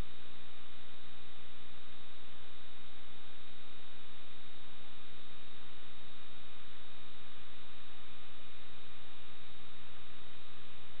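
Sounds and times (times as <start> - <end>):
steady low hum: 0.0 - 11.0
thin high whine: 0.0 - 11.0.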